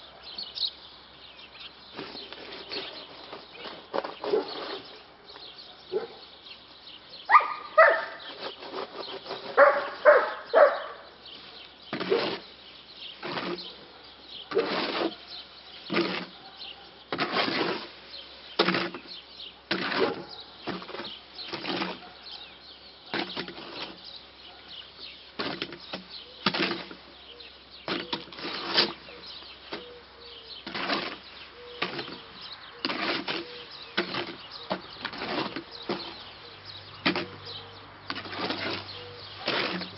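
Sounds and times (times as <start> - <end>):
shovel scraping wet concrete: 1.8 - 5.6, 7.7 - 39.9.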